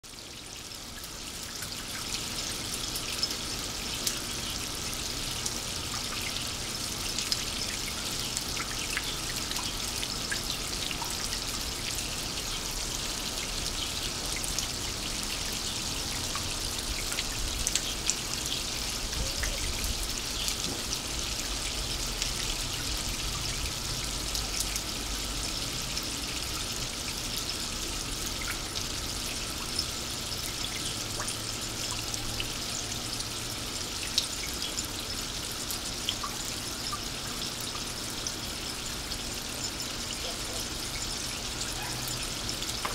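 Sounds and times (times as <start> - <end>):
water trickling down rain chain: 0.0 - 42.9
water drips: 0.3 - 42.9.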